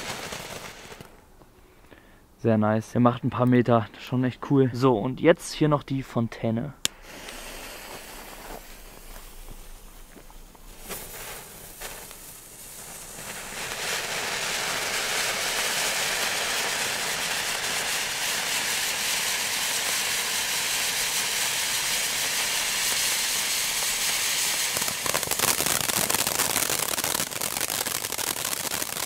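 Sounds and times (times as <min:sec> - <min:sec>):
firework fountain hissing: 0:00.0 - 0:01.2, 0:06.8 - 0:29.0.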